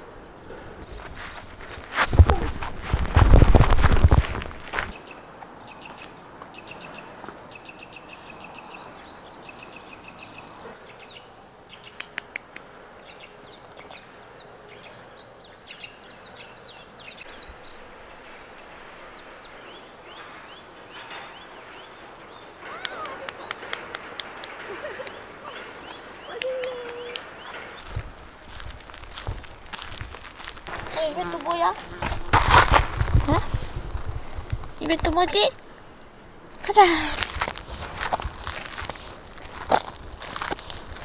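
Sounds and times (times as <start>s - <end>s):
small birds chirping: 0.0s - 32.3s, 32.9s - 41.0s
faint outdoor hiss: 0.0s - 41.0s.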